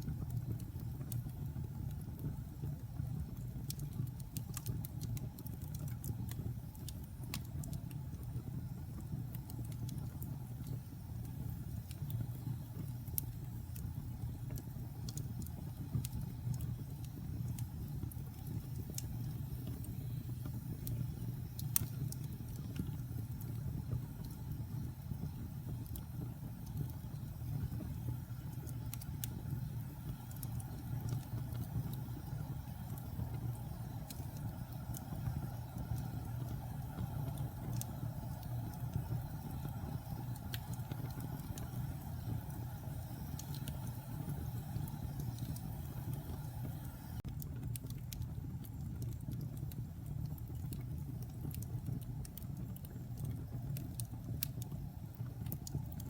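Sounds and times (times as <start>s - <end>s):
fire burning: 0.0s - 56.0s
fire crackling and popping: 0.0s - 56.0s.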